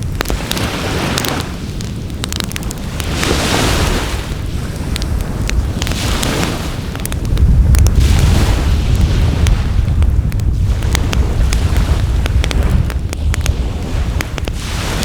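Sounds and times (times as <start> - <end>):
surf washing on shore: 0.0 - 15.0
wood fire crackling and popping: 0.0 - 15.0.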